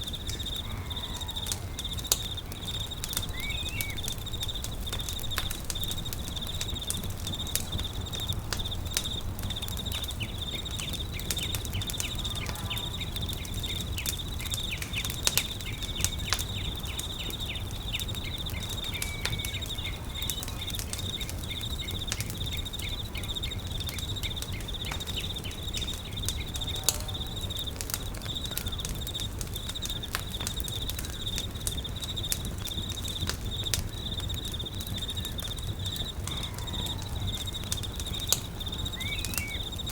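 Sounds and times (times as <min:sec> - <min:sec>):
campfire crackling and popping: 0:00.0 - 0:39.9
high insect trill: 0:00.0 - 0:39.9.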